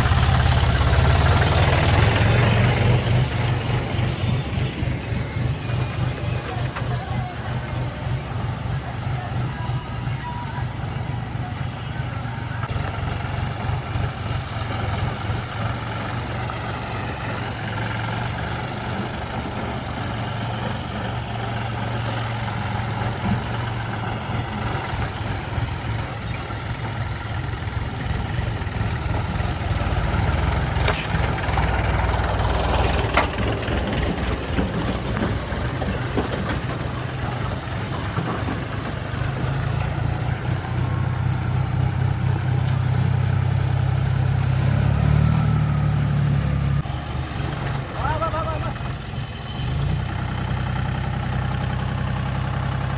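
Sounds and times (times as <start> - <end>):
diesel engines running: 0.0 - 52.9.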